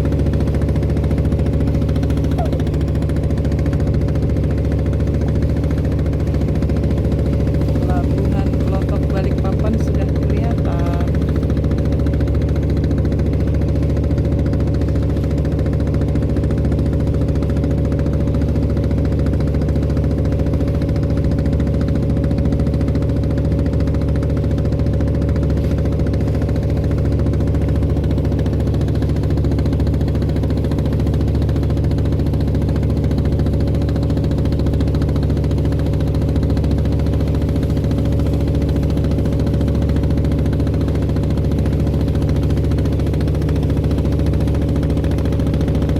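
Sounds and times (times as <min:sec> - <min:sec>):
boat diesel engine droning: 0:00.0 - 0:45.9.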